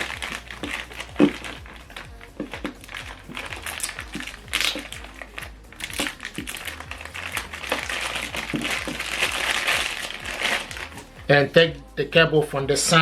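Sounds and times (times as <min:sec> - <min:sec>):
cables and plastic rustling: 0:00.0 - 0:13.0.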